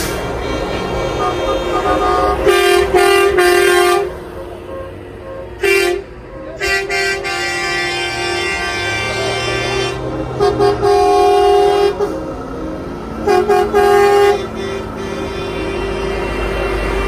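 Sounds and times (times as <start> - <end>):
truck air horn blasts: 0.0 - 12.3, 13.2 - 17.0
truck engine running: 0.0 - 17.0.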